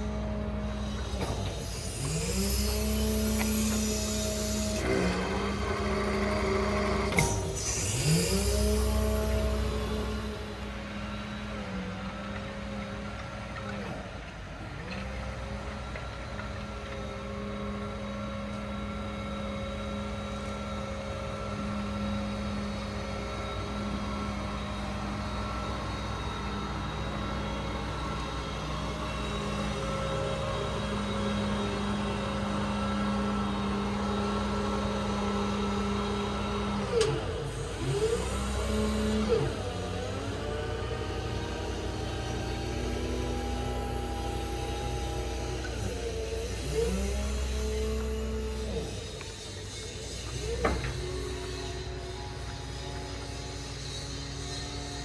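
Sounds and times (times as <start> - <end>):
hydraulic pump humming whine: 0.0 - 55.0.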